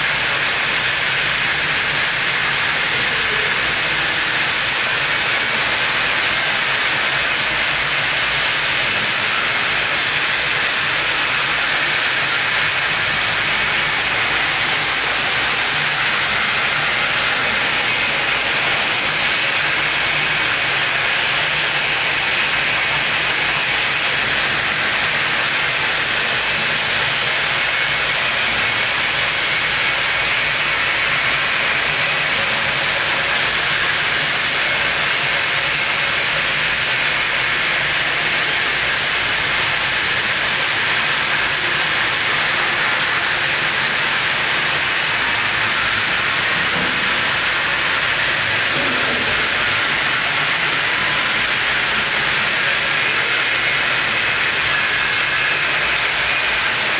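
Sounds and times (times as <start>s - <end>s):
steady hiss: 0.0s - 56.9s.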